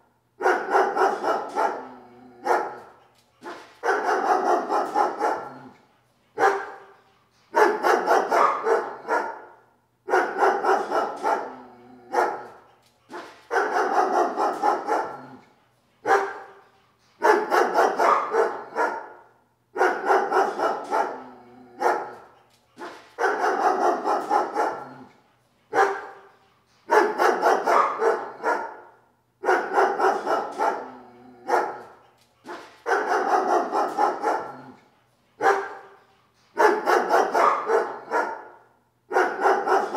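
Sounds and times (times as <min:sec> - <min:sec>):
dog barking: 0:00.4 - 0:05.8, 0:06.4 - 0:15.4, 0:16.0 - 0:25.1, 0:25.7 - 0:26.3, 0:26.9 - 0:36.0, 0:36.6 - 0:39.9.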